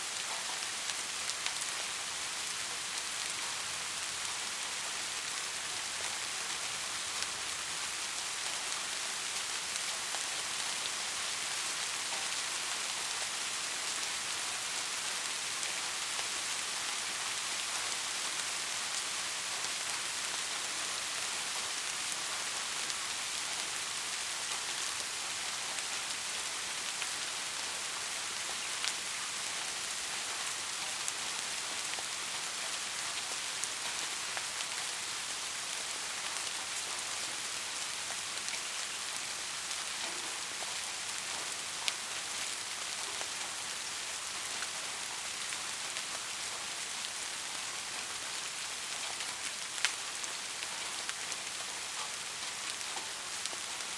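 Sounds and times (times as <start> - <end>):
heavy rain on a roof: 0.0 - 53.9.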